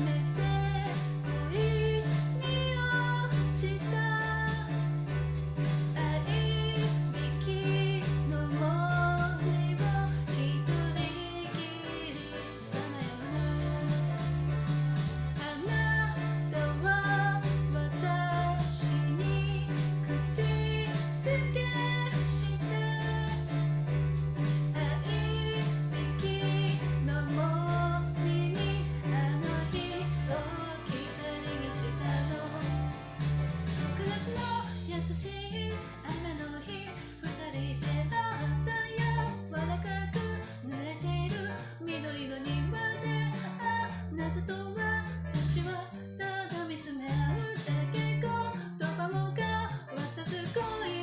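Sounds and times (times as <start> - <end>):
woman singing pop song: 0.0 - 5.2, 5.9 - 14.8, 15.4 - 23.8, 24.5 - 51.0
bass: 0.0 - 51.0
guitar: 0.0 - 51.0.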